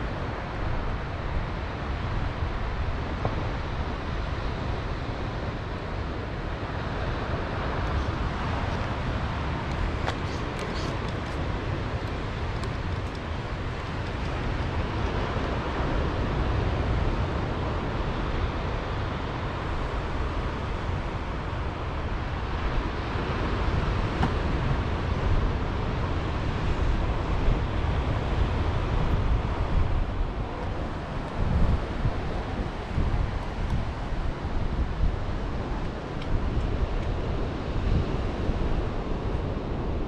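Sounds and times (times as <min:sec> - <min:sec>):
surf on a beach: 0:00.0 - 0:40.0
wind buffeting microphone: 0:00.0 - 0:40.0.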